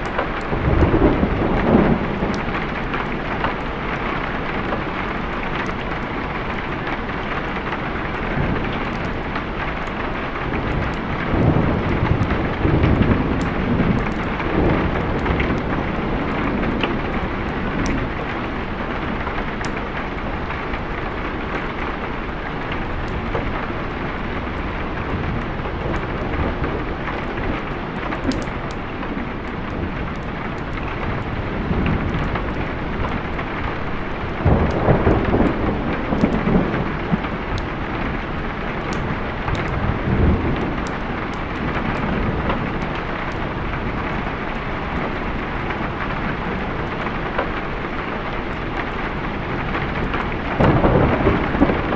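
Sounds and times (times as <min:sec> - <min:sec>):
heavy rain: 0:00.0 - 0:51.9
thunder rumbling: 0:00.0 - 0:51.9.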